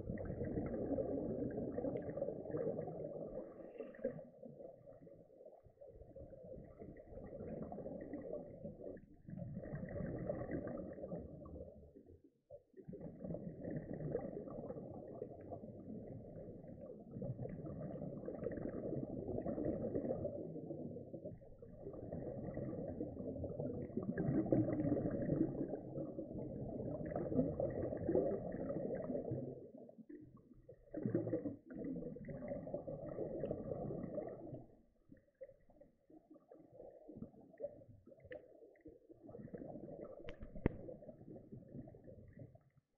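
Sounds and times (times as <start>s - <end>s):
underwater exhaled bubbles rumbling: 0.0s - 42.9s.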